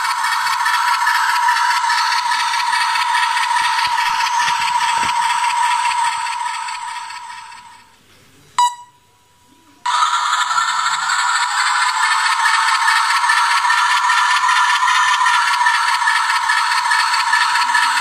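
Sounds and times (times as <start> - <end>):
tinny diesel engine drone: 0.0 - 8.0, 9.9 - 18.0.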